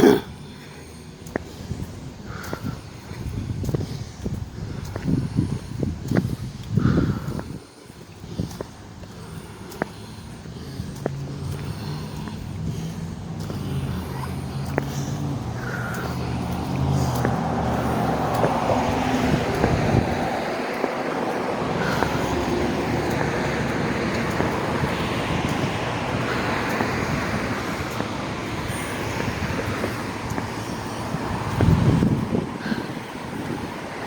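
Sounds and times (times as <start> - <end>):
road traffic going by: 0.0 - 34.0.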